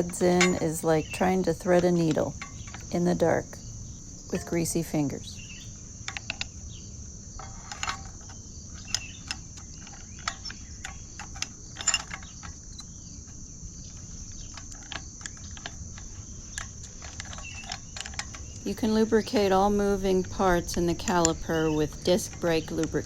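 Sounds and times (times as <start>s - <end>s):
small metal clicks and taps: 0.0s - 3.3s, 6.1s - 6.6s, 7.4s - 13.0s, 13.8s - 23.0s.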